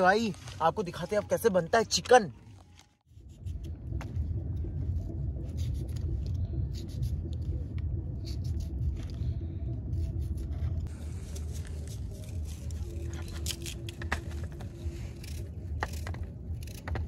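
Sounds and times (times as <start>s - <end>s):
steady low rumble: 2.4s - 17.0s.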